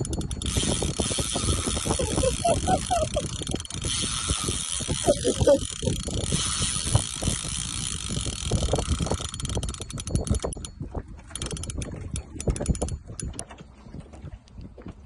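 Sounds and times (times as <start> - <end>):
fishing reel drag clicking: 0.0 - 13.4.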